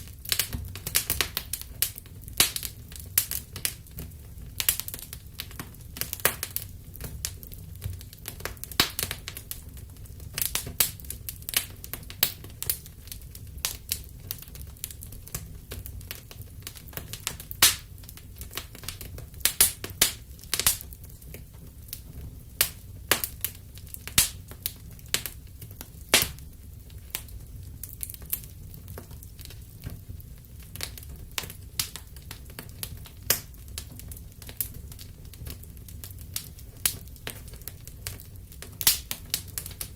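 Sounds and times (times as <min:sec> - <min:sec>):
low fire rumble: 0:00.0 - 0:39.9
wood fire crackling and popping: 0:00.0 - 0:39.9.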